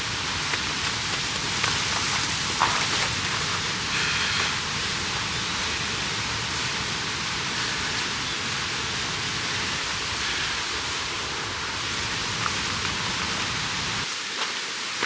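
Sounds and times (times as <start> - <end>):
stream water rushing: 0.0 - 14.9.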